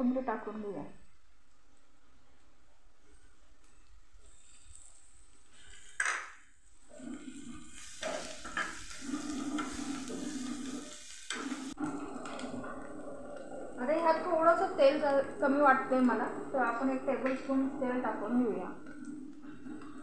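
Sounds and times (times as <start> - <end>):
oil sizzling: 1.2 - 20.0.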